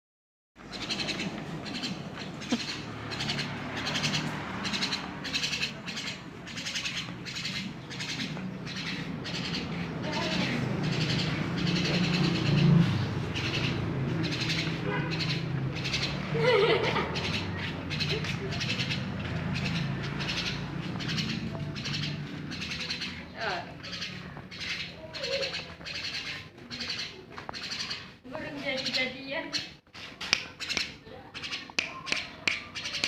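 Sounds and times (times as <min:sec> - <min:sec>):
bird harsh rasping calls: 0:00.6 - 0:33.0.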